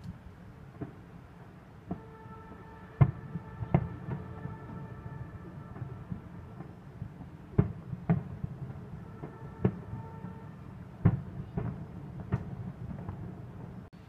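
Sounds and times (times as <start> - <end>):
firework shells booming: 1.8 - 13.8.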